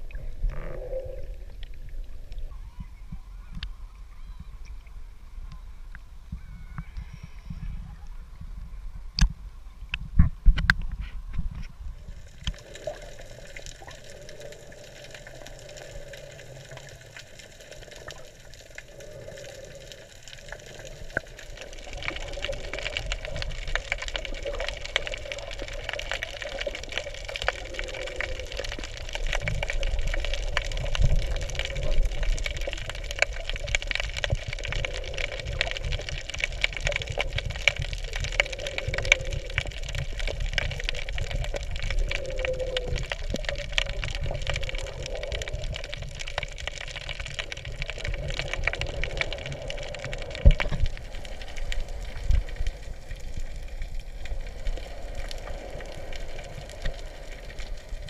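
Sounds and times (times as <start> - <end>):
dense crackling: 0.0 - 8.5, 9.1 - 58.0
muffled underwater hiss: 0.0 - 58.0
water splashing against camera: 0.0 - 58.0.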